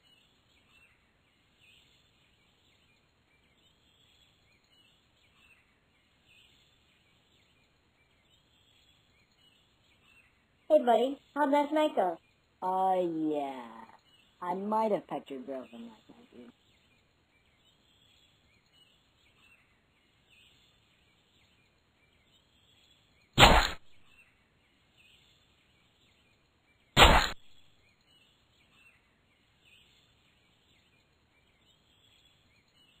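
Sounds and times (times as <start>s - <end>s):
faint small bird chirps: 0.0s - 33.0s.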